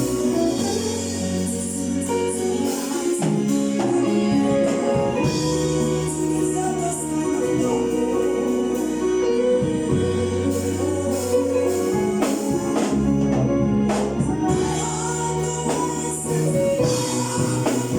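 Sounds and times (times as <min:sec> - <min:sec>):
choir singing: 0:00.0 - 0:17.9
held bass notes: 0:00.0 - 0:17.9
instrumental accompaniment: 0:00.0 - 0:17.9.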